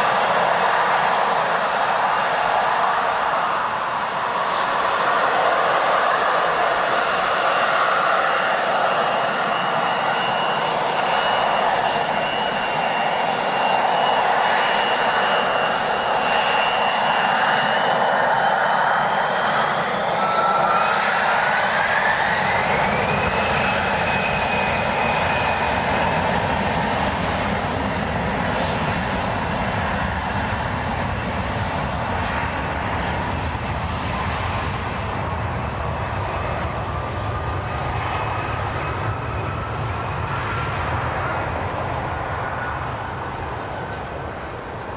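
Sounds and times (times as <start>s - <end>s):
jet engine high whine: 0.0s - 44.9s
jet engines roaring: 0.0s - 44.9s.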